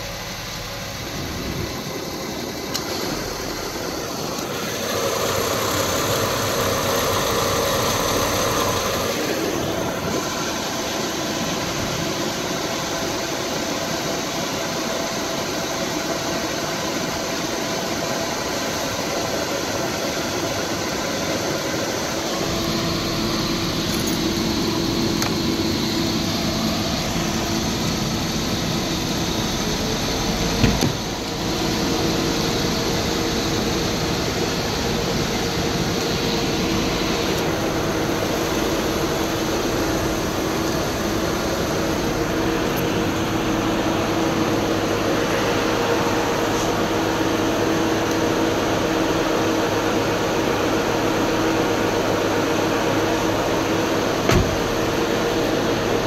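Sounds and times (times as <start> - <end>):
blower fan running: 0.0 - 56.0
car engine idling: 0.0 - 56.0.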